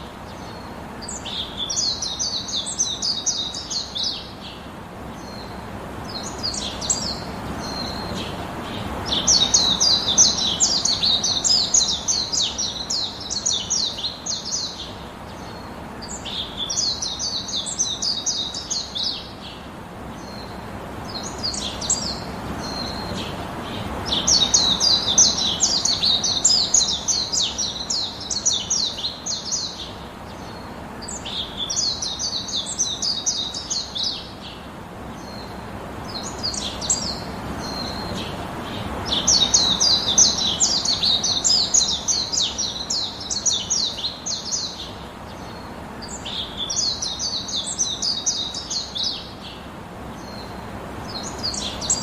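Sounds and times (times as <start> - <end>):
birds chattering high chirps: 0.0 - 52.0.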